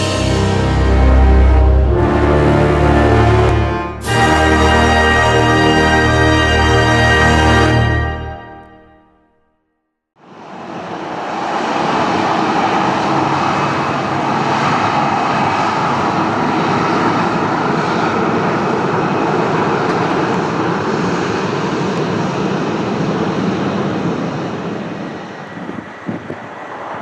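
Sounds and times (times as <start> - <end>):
jet engines taxiing: 0.0 - 8.8, 10.2 - 27.0.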